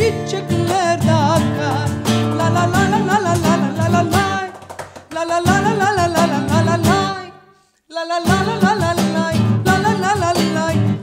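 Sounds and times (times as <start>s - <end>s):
strummed acoustic guitar: 0.0s - 4.6s, 5.4s - 7.4s, 8.2s - 11.0s
cajon: 0.0s - 7.3s, 8.2s - 11.0s
woman singing: 0.0s - 11.0s.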